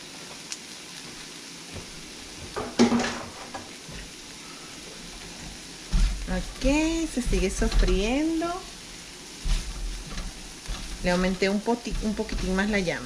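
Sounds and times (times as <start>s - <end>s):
vegetables sizzling in a wok: 0.0s - 13.0s.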